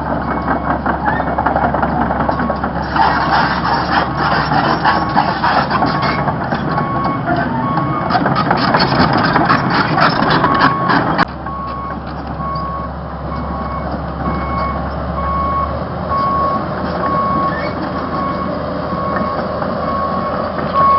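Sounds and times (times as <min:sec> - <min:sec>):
diesel engine: 0:00.0 - 0:20.9.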